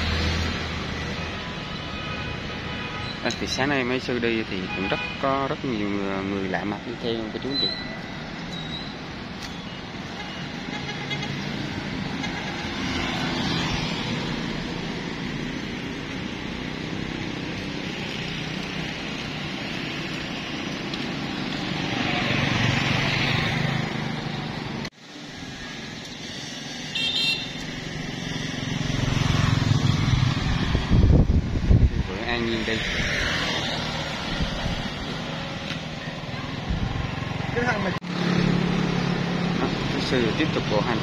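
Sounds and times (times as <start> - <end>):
cars and motorbikes passing: 0.0 - 41.0.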